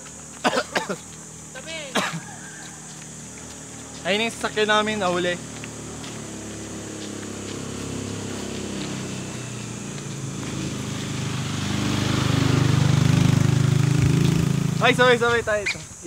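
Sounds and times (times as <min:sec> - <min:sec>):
motorcycle engine approaching: 0:00.0 - 0:15.7.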